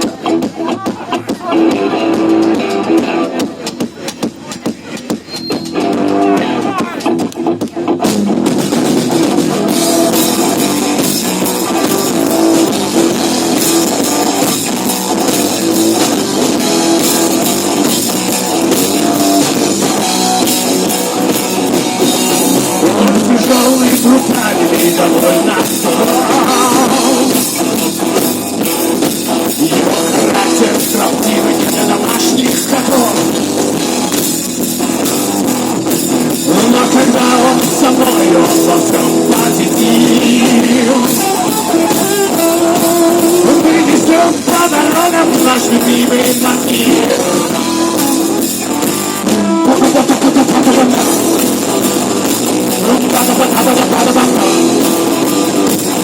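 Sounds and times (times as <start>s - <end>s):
rock music with electric guitar: 0.0s - 56.0s.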